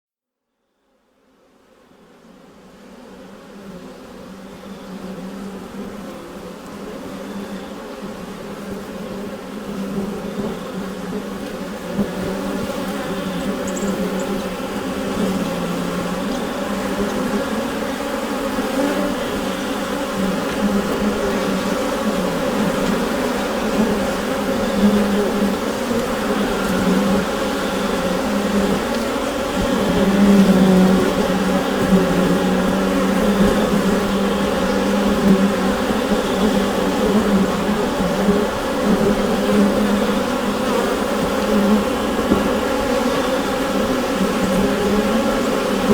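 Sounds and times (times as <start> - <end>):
bees buzzing in a hive: 0.8 - 45.9.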